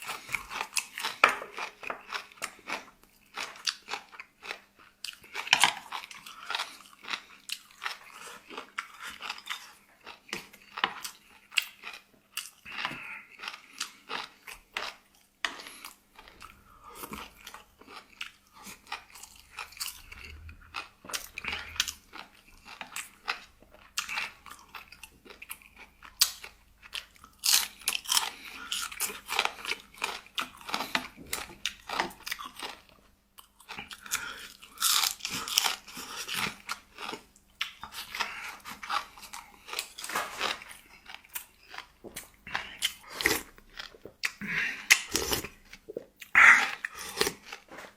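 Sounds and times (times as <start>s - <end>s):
person chewing and crunching food: 0.0s - 47.9s.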